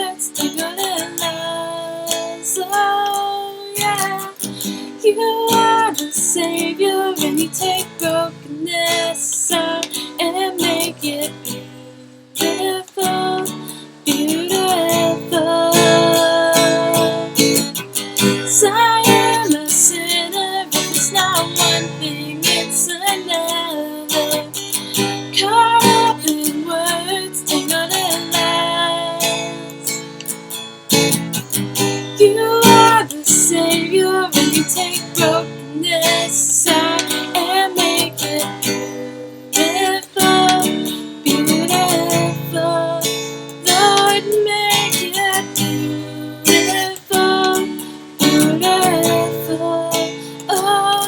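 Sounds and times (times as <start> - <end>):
woman singing: 0.0 - 30.3, 30.9 - 51.0
acoustic guitar strumming: 0.0 - 51.0.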